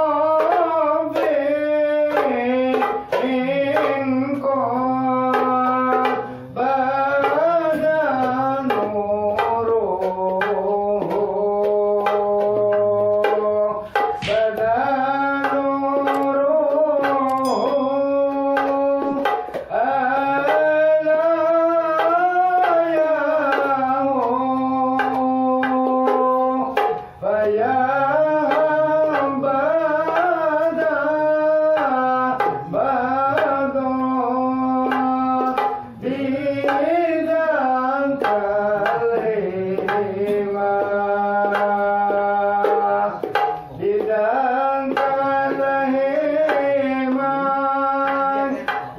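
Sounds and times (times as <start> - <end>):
frame drums beating: 0.0 - 48.9
voices singing: 0.0 - 48.9.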